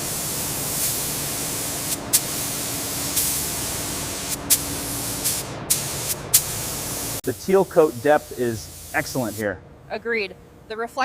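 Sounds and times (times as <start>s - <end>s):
sharp spray spurts: 0.0s - 7.2s, 7.8s - 9.4s
paint spray gun hissing: 0.0s - 9.4s.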